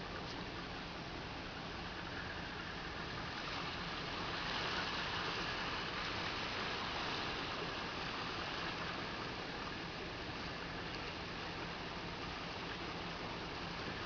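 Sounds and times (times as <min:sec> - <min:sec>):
rushing hiss of water: 0:01.5 - 0:14.0.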